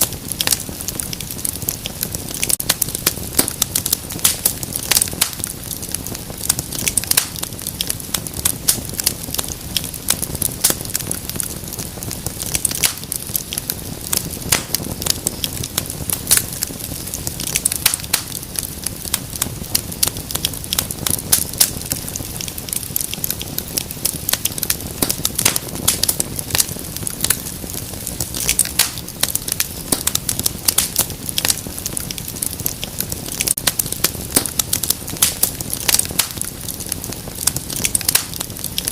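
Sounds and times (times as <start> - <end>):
rush of flame: 0.0 - 38.9
wood fire crackling: 0.0 - 38.9.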